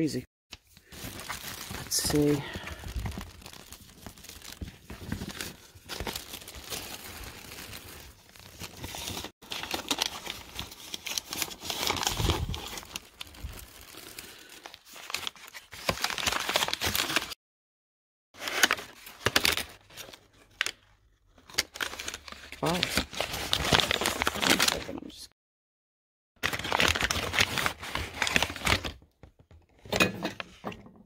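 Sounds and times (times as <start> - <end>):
paper crinkling and rustling: 0.5 - 17.4, 18.4 - 25.0, 26.4 - 29.9.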